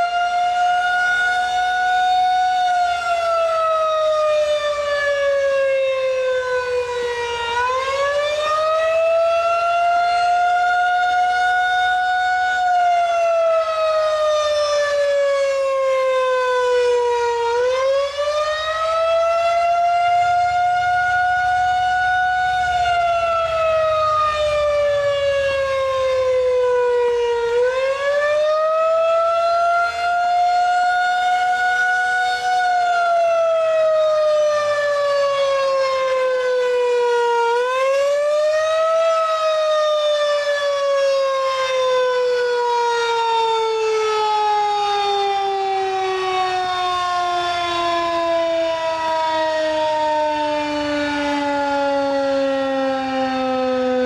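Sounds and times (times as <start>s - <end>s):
rotating warning siren wailing: 0.0s - 54.0s.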